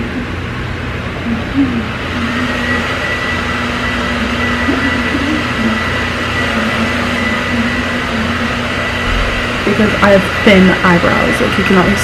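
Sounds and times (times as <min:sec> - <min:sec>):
room fan whirring hum: 0:00.0 - 0:12.0
thin high whine: 0:01.3 - 0:11.4.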